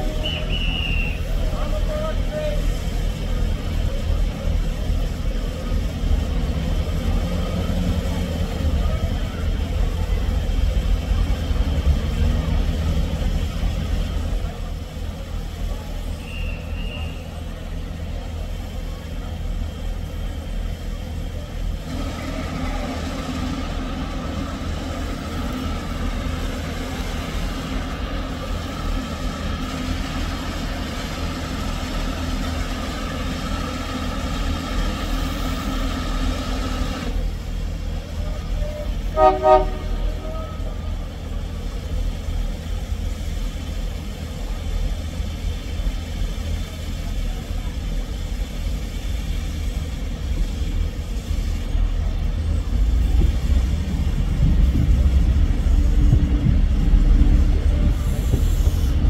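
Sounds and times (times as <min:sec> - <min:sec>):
railway engine rumbling: 0:00.0 - 0:59.0.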